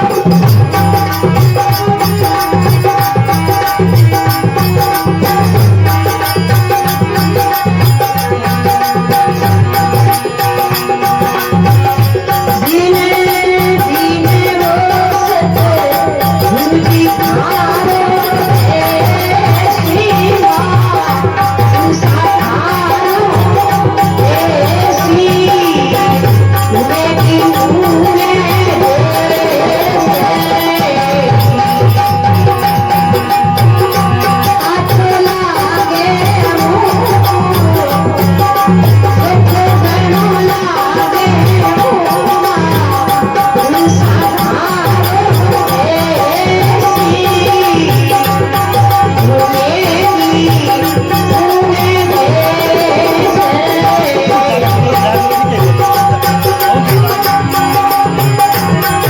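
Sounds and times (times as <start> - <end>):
woman singing: 0.0 - 57.5
hand drum beat: 0.0 - 59.0
rattle keeping time: 0.0 - 59.0.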